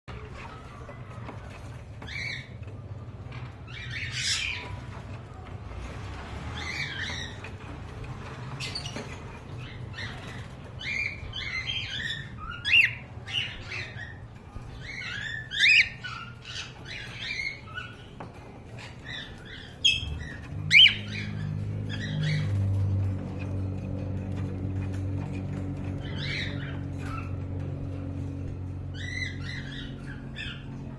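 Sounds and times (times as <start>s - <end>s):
cockatiels chirping and squawking: 0.1s - 30.9s.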